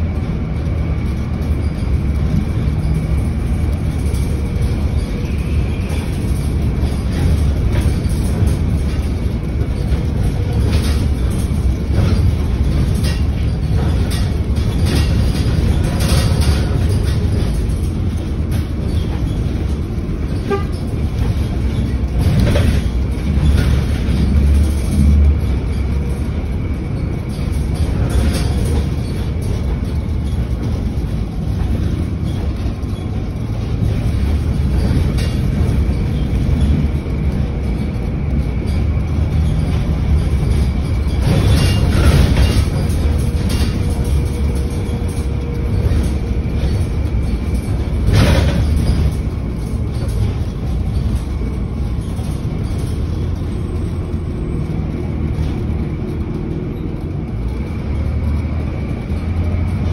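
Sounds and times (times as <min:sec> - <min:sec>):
bus engine and tyres rumbling: 0:00.0 - 0:59.9
rattling: 0:00.1 - 0:59.9.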